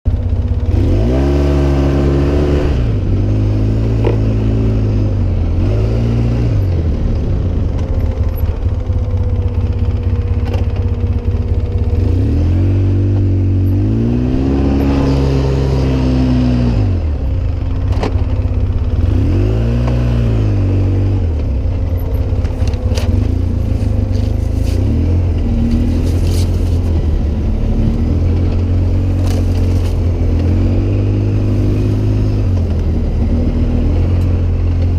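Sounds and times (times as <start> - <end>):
off-road vehicle engine revving: 0.1 - 34.9.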